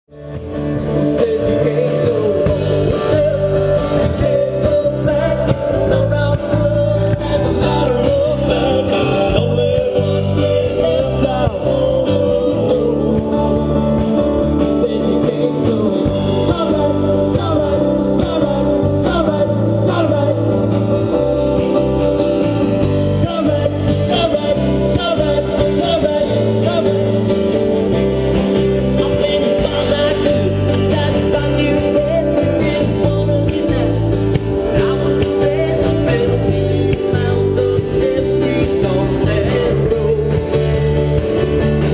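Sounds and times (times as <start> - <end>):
electric guitar: 0.0 - 41.9
acoustic guitar: 0.1 - 41.9
live rock band playing: 0.1 - 41.9
man singing: 0.1 - 41.9.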